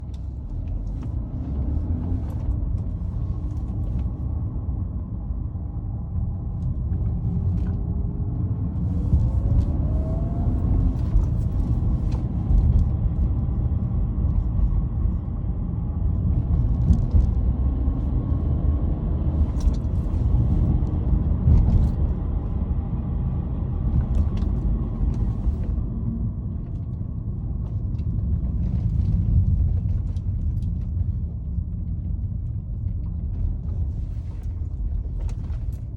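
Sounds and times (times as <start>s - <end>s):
car engine accelerating: 0.0s - 31.4s.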